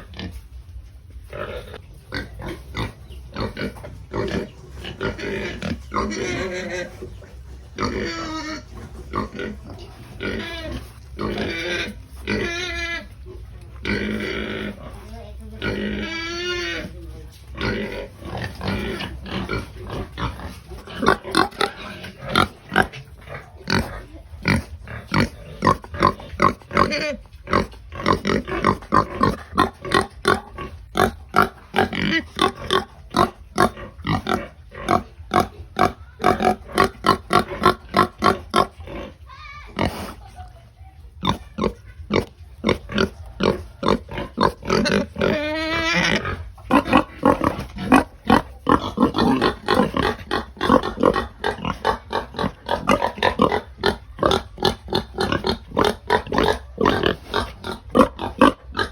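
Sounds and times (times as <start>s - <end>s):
pigs grunting: 0.0s - 58.9s.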